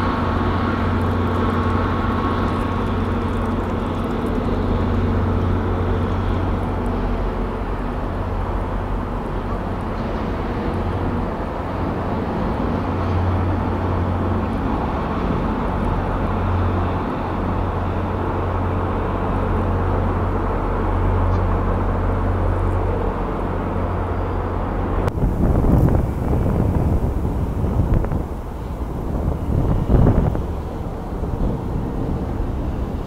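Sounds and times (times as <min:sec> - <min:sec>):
city traffic noise: 0:00.0 - 0:33.0
diesel train engine drone: 0:00.0 - 0:33.0.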